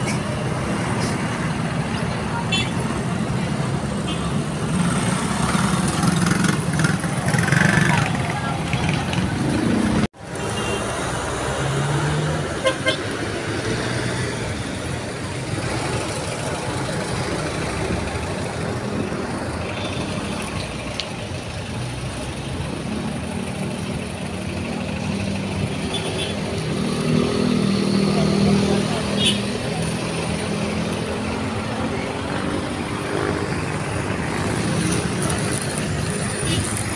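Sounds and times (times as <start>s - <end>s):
vehicle engines passing: 0.0s - 36.9s.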